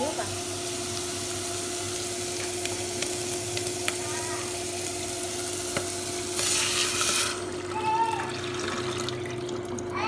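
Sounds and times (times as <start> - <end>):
food sizzling in oil: 0.0 - 8.9.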